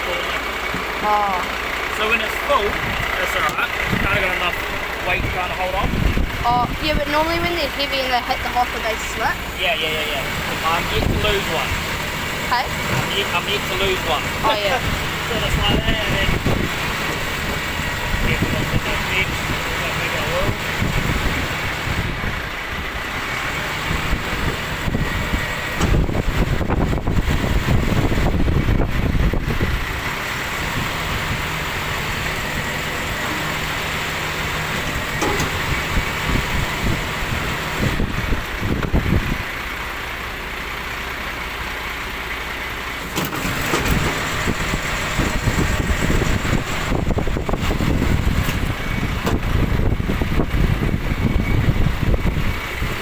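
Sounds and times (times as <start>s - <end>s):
diesel truck engine: 0.0s - 53.0s
hydraulic arm working: 0.0s - 53.0s.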